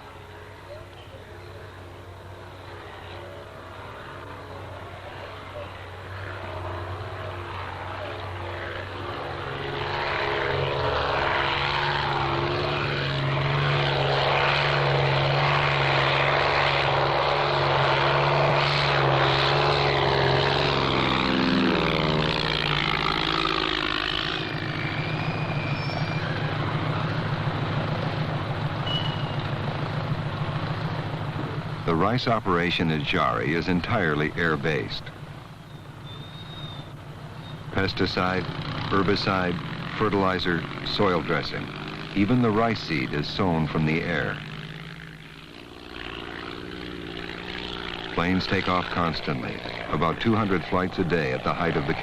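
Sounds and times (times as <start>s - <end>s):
propeller airplane engine drone: 0.0s - 52.0s.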